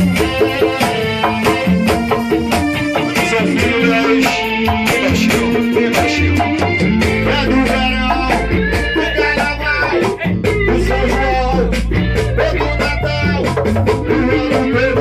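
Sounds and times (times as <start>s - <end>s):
band playing: 0.0s - 15.0s.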